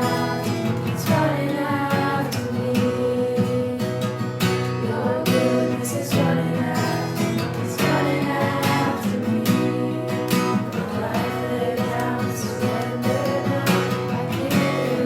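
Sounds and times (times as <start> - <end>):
person singing: 0.0 - 4.2, 4.8 - 15.0
acoustic guitar strumming: 0.0 - 15.0.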